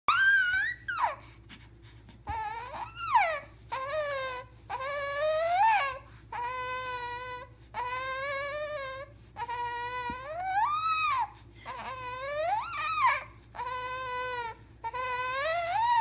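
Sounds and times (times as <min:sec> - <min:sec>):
baby crying: 0:02.3 - 0:16.0.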